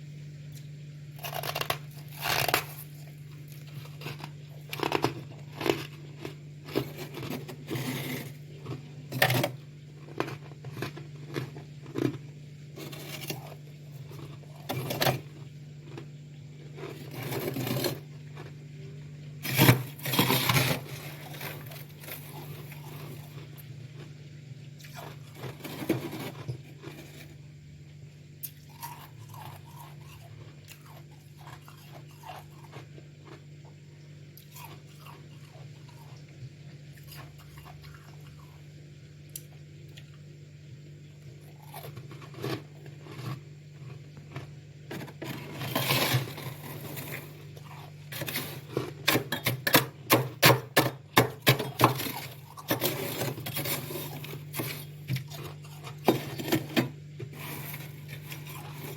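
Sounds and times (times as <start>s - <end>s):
frost being chewed and crunched: 0.4s - 27.6s, 28.4s - 38.7s, 41.2s - 58.9s.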